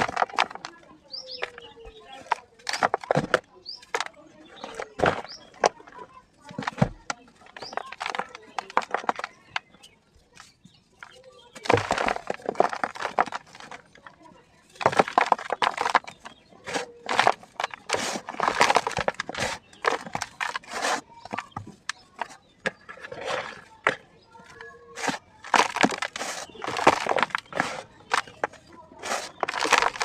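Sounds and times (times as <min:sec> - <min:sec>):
cement chunks crunching: 0:00.0 - 0:30.0.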